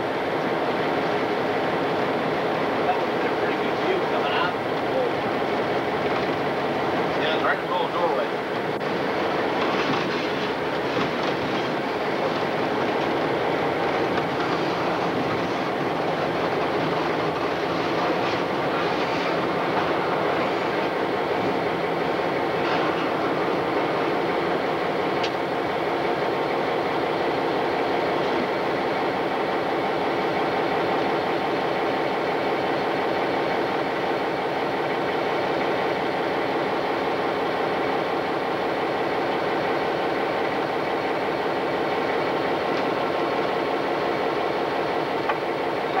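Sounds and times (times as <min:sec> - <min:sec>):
diesel locomotive engine: 0:00.0 - 0:46.0
wheels on rails: 0:00.0 - 0:46.0.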